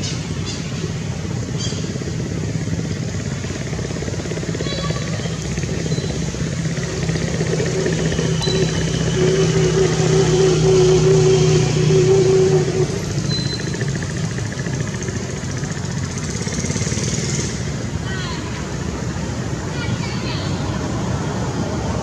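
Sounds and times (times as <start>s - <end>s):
motorbike engine running: 0.2s - 18.0s.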